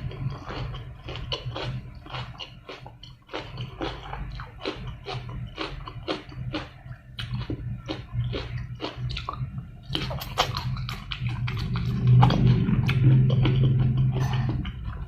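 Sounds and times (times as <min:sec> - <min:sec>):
low hum: 0:00.0 - 0:15.0
wet crunchy chewing: 0:00.0 - 0:15.0.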